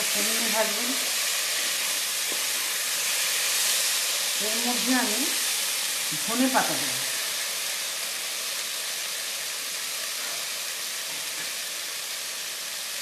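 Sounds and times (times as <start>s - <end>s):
beans sizzling in oil: 0.0s - 13.0s.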